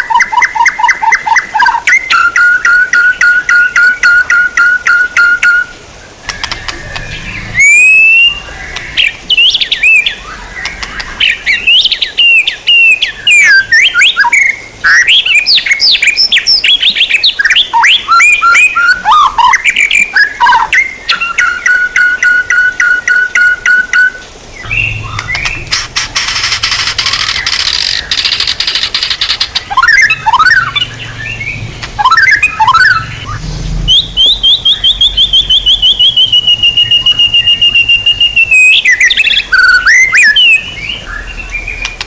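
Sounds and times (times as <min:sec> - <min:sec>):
songbird whistled song: 0:00.0 - 0:42.0.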